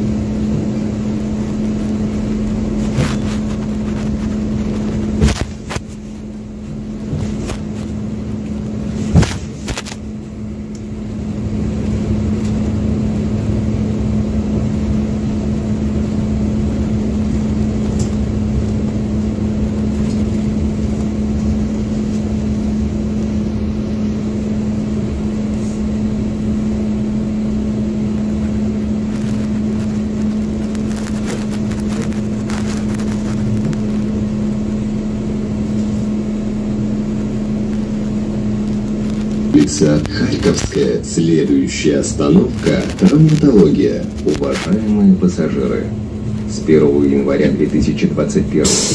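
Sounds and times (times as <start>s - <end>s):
bus engine and road noise: 0.0s - 48.9s.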